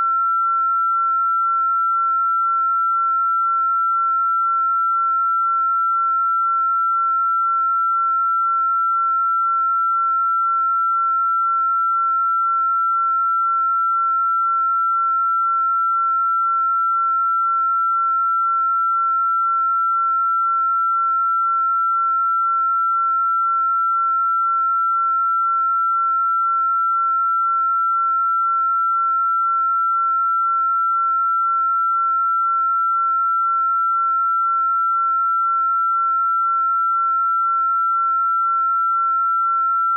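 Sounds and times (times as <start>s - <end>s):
steady high sine-wave tone: 0.0s - 39.9s.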